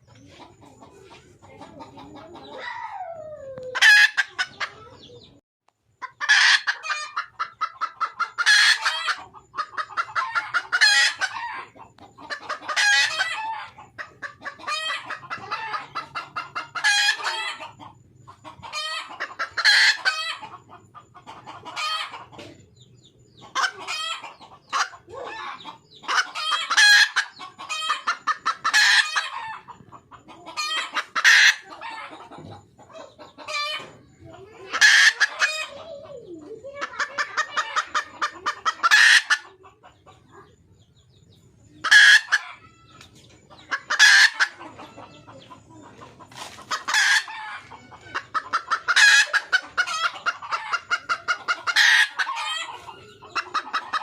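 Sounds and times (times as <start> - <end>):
hen cackling: 0.0 - 5.4, 6.0 - 40.6, 41.6 - 54.0.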